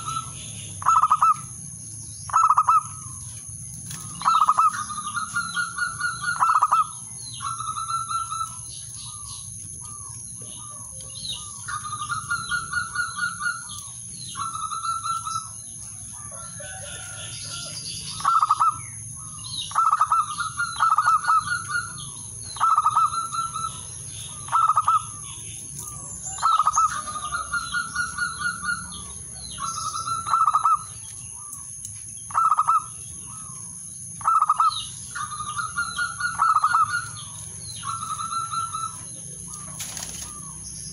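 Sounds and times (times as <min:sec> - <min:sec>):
dove cooing: 0:00.0 - 0:01.5, 0:02.3 - 0:03.2, 0:03.9 - 0:15.6, 0:16.2 - 0:31.5, 0:34.2 - 0:40.6.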